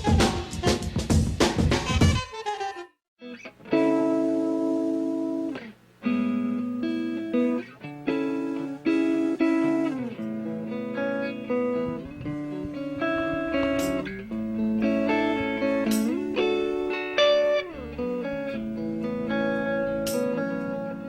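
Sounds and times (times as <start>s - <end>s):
guitar chords strummed: 1.9s - 21.0s.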